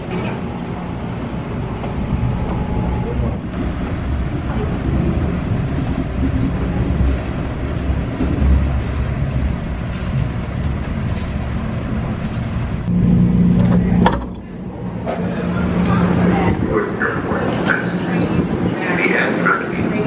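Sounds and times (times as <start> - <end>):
low hum: 0.0 - 18.6
passenger rail car rumble and hiss: 0.0 - 20.0.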